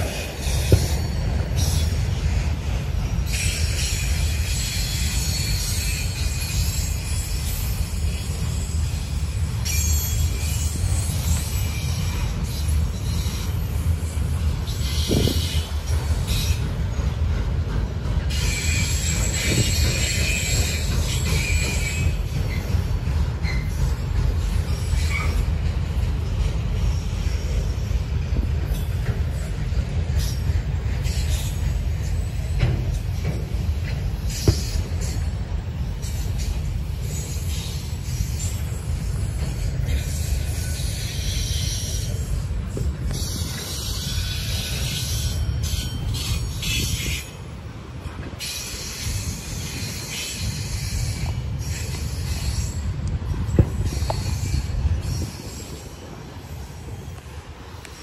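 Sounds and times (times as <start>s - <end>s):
freight train cars rumbling past: 0.0s - 58.0s
wheels clicking on rails: 0.0s - 58.0s.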